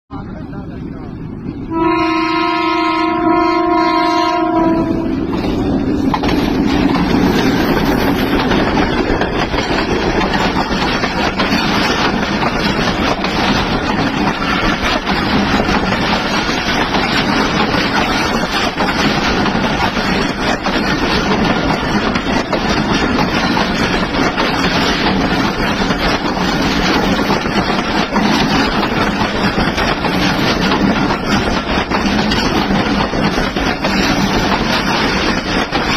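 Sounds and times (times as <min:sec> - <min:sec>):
train running rumble: 0:00.1 - 0:35.9.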